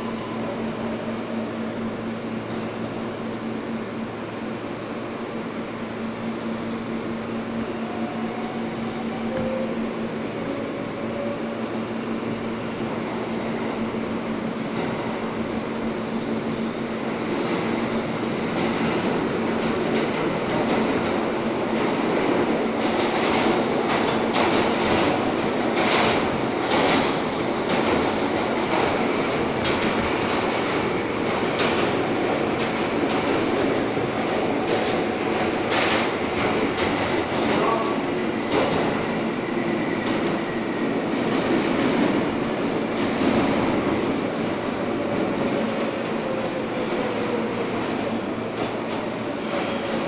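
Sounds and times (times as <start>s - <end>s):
subway train running noise: 0.0s - 50.0s.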